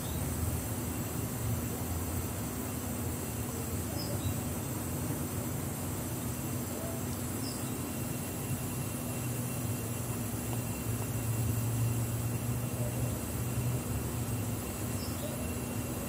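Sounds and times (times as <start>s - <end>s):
constant hum: 0.0s - 16.0s.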